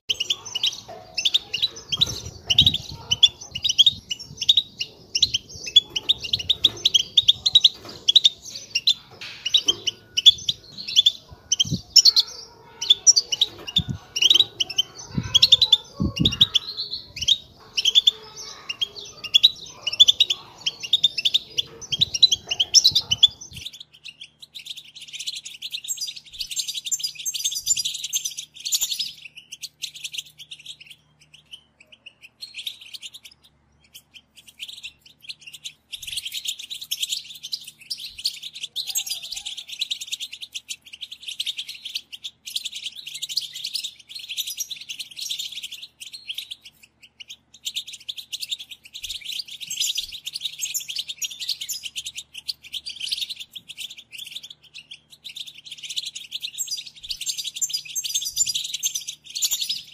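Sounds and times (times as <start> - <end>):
goldfinches twittering: 0.1 - 59.9.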